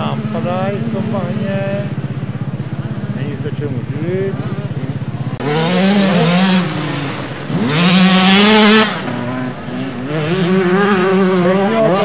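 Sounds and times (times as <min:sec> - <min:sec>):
motocross bike engines revving: 0:00.0 - 0:12.0
motorbike passing close: 0:00.0 - 0:12.0.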